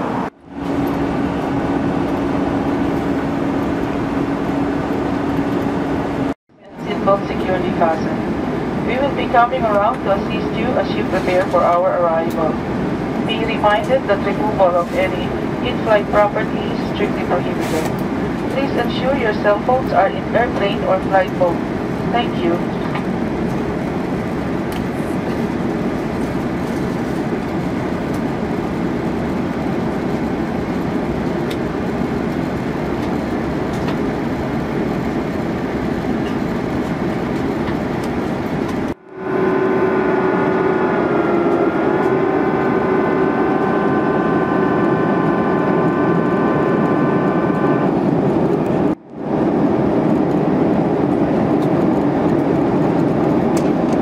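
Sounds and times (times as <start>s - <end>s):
airplane cabin rush: 0.0s - 54.0s
multi-tone engine whine: 0.0s - 54.0s.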